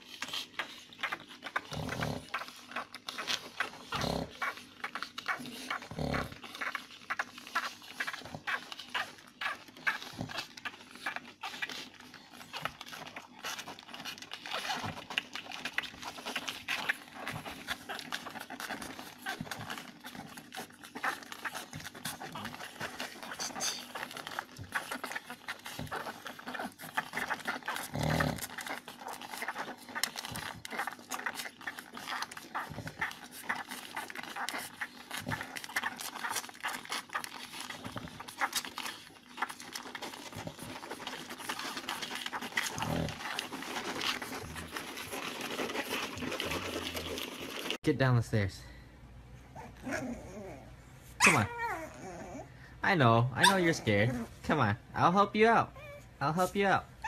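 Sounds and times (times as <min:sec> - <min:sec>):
puppies squeaking and grunting: 0:00.0 - 0:47.9, 0:49.4 - 0:57.0
puppies suckling: 0:00.0 - 0:48.6, 0:49.3 - 0:57.0.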